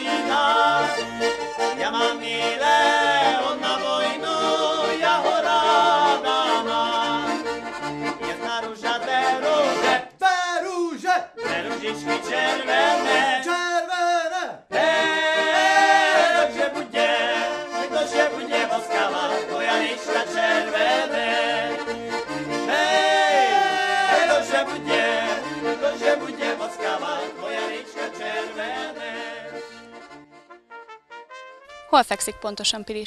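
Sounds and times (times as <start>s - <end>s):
accordion folk tune: 0.0s - 14.1s, 14.7s - 33.0s.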